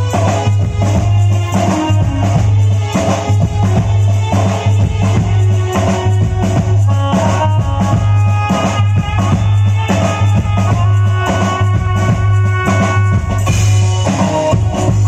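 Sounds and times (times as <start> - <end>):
drum kit: 0.0 - 15.0
heavy bass: 0.0 - 15.0.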